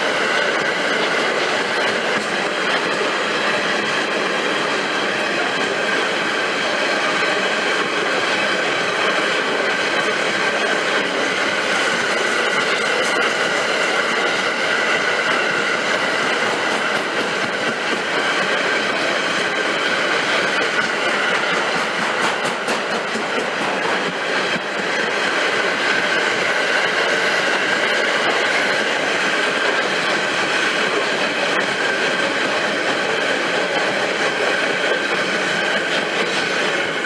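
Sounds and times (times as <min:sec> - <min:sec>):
freight wagons rolling on rail: 0:00.0 - 0:37.0.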